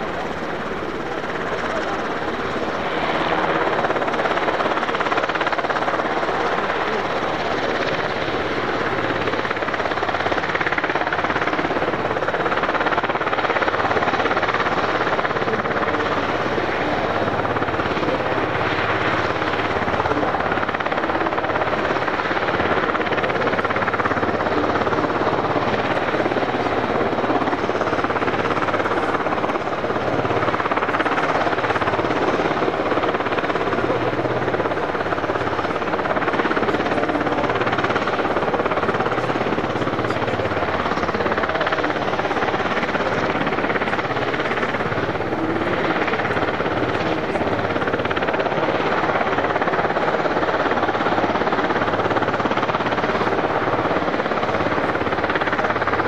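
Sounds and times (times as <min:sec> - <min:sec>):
helicopter rotor and engine rush: 0:00.0 - 0:56.0.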